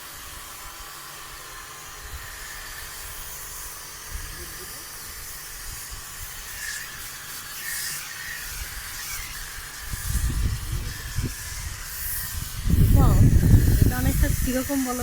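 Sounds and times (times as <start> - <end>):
water spray hissing: 0.0 - 15.0.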